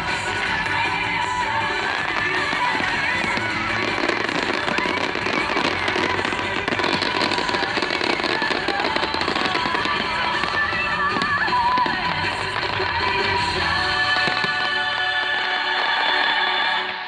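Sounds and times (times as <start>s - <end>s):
fireworks crackling and popping: 0.0s - 17.0s
show music: 0.0s - 17.0s.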